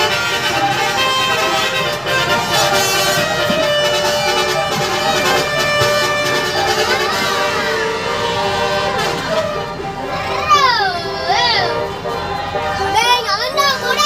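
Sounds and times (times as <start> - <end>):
bus musical horn playing tune: 0.0 - 14.0.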